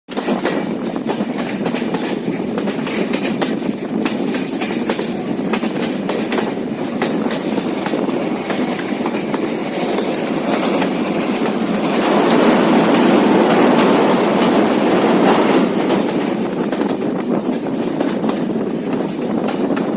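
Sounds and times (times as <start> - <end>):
train wheels rumbling on rails: 0.1 - 19.9
wheels clicking over track: 0.1 - 19.9.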